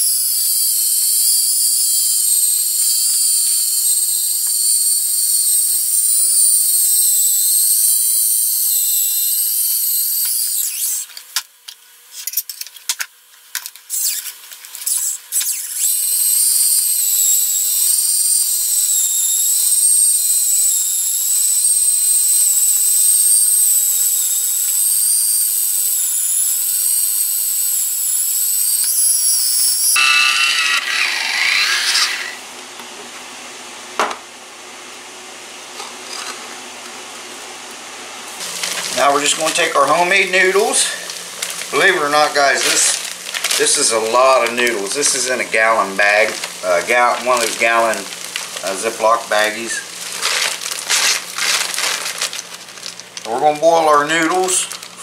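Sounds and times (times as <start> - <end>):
electric can opener motor whine: 0.0 - 11.2, 13.8 - 32.5, 35.8 - 37.0, 38.4 - 55.0.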